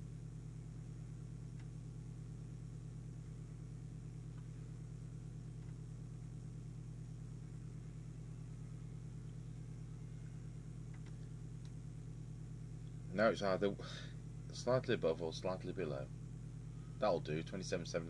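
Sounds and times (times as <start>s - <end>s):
mains hum: 0.0s - 18.0s.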